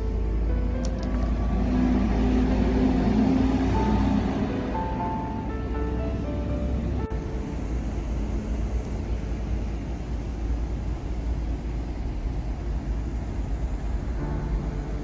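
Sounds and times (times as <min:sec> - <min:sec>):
vehicle rumbling: 0:00.0 - 0:15.0.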